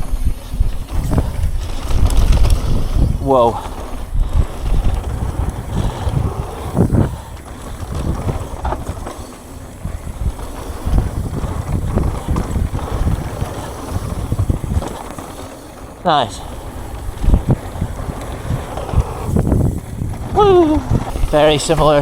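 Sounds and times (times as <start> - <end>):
wind buffeting microphone: 0.0 - 22.0
bike knocks and rattles: 0.1 - 22.0
tyres rumbling on dirt: 0.4 - 22.0.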